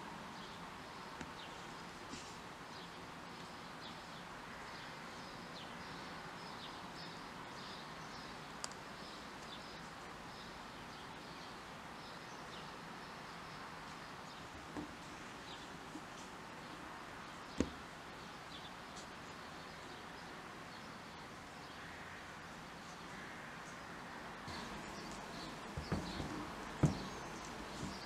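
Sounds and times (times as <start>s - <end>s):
steady background hiss: 0.0s - 28.0s
small birds chirping: 0.3s - 28.0s.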